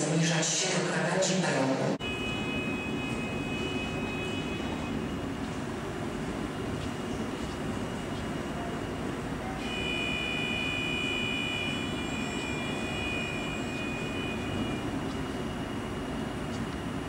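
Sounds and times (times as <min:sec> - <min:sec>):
high-pitched train whine: 0:00.0 - 0:17.0
train rumble: 0:00.0 - 0:17.0.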